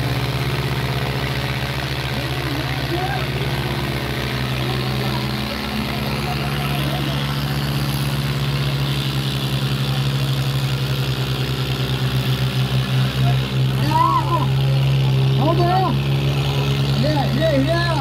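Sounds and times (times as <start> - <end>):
crowd voices: 0.0 - 18.0
tractor diesel engines at full throttle: 0.0 - 18.0.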